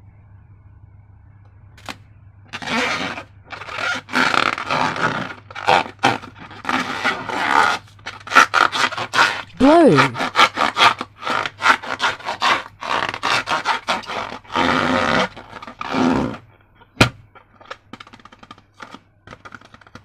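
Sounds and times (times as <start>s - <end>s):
rasping scraping of slime and balloons: 2.5s - 20.0s.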